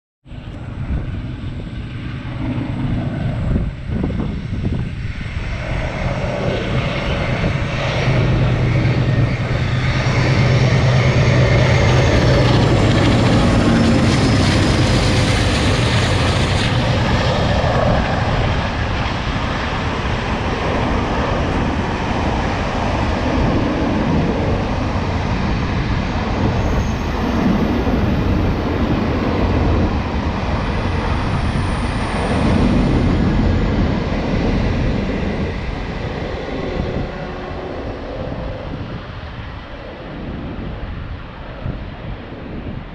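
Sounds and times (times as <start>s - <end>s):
diesel locomotive engines droning: 0.3s - 42.9s.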